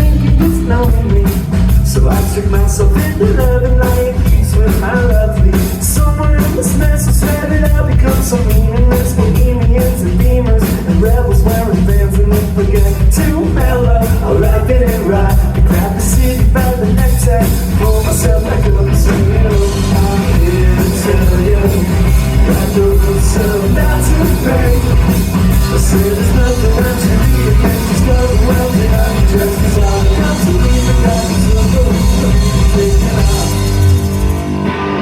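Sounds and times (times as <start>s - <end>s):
person singing: 0.0s - 34.1s
drums: 0.0s - 35.0s
live rock band playing: 0.0s - 35.0s.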